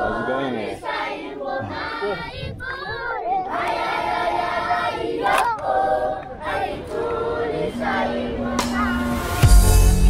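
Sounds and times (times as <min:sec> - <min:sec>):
choir singing long notes: 0:00.0 - 0:10.0.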